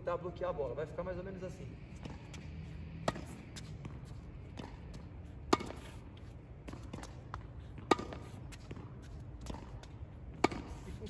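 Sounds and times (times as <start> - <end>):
tennis ball hit by racket: 2.0 - 11.0.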